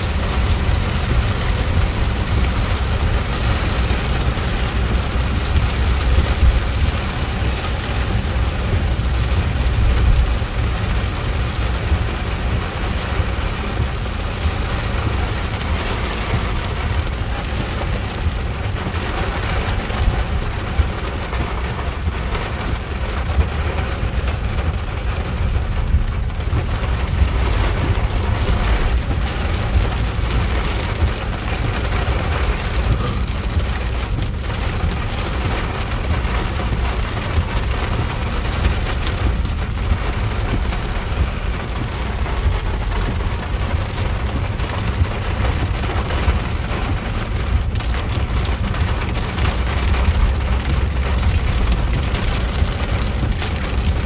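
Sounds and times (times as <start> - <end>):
heavy rain on car roof: 0.0 - 54.0
road and engine rumble: 0.0 - 54.0.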